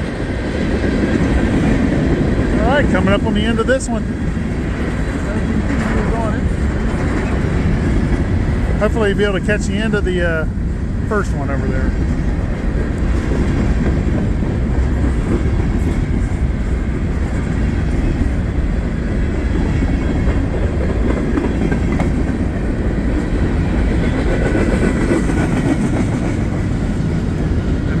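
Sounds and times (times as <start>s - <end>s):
freight train rumbling past: 0.0s - 28.0s
wheels clacking over rail joints: 0.0s - 28.0s.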